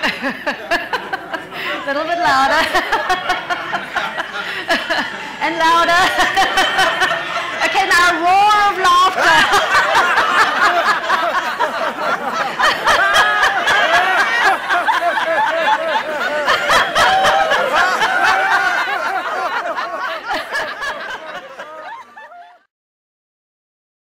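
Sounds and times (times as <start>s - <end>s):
crowd laughing: 0.0s - 22.7s.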